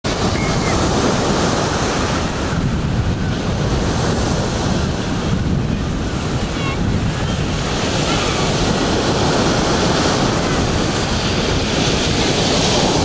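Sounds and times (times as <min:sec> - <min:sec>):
surf breaking on beach: 0:00.1 - 0:13.0
wind buffeting microphone: 0:00.1 - 0:13.0.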